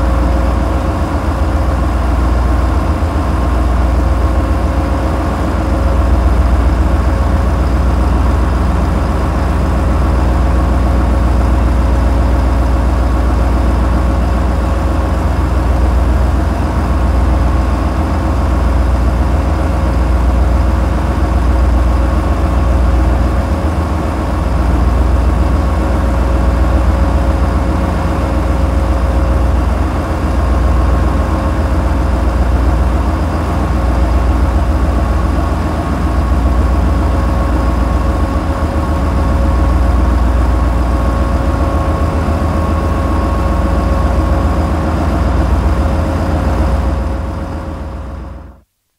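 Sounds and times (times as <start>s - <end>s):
steady engine hum: 0.0s - 48.6s
boat engines low rumble: 0.0s - 48.7s.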